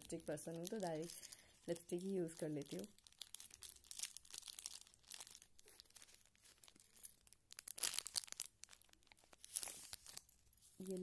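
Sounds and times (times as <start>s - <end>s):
plastic sleeve crinkling: 0.0s - 11.0s.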